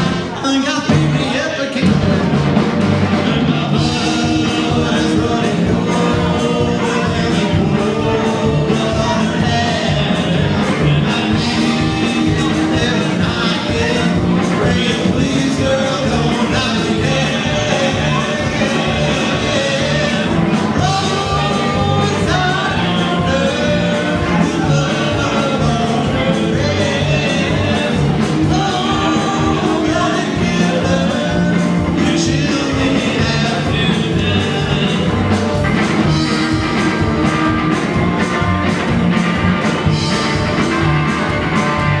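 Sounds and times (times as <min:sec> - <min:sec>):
electric guitar: 0:00.0 - 0:42.0
slapped upright bass: 0:00.0 - 0:42.0
person singing: 0:03.1 - 0:38.6.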